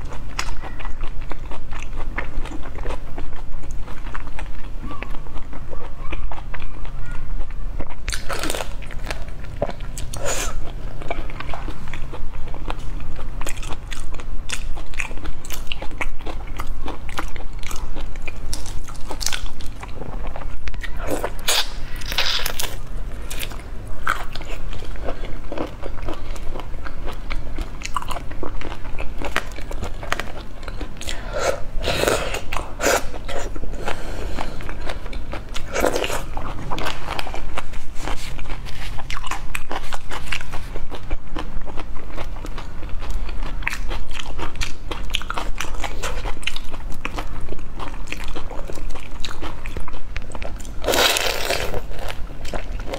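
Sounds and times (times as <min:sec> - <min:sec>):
biting and chewing shrimp: 0:00.0 - 0:52.9.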